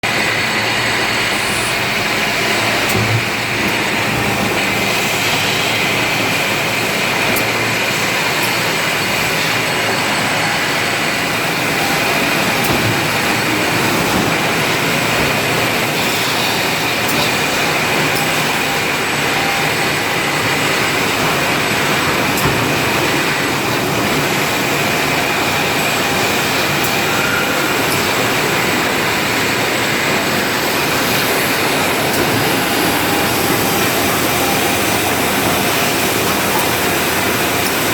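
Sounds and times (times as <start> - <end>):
industrial vacuum cleaner running: 0.0 - 37.9.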